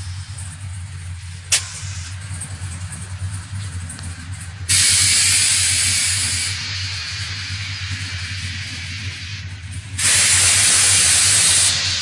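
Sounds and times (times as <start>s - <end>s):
air suspension hissing: 0.0s - 12.0s
steady low hum: 0.0s - 12.0s.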